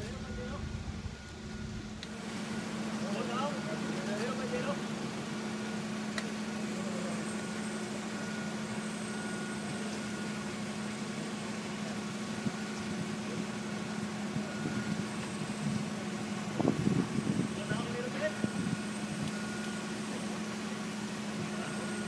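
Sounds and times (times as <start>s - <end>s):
forklift idling: 0.0s - 22.0s.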